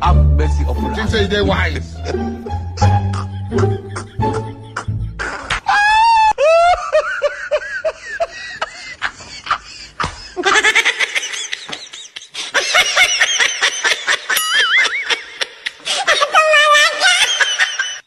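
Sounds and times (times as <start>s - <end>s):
people laughing: 1.6s - 18.0s.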